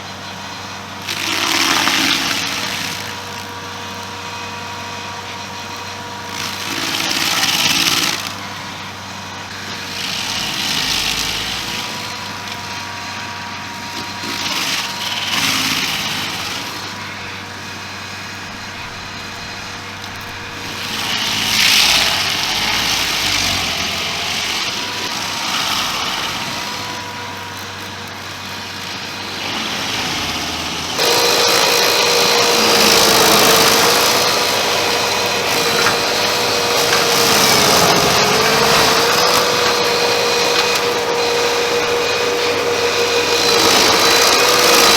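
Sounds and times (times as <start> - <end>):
cutter wheel grinding wood: 0.0 - 44.9
small engine running: 0.0 - 44.9.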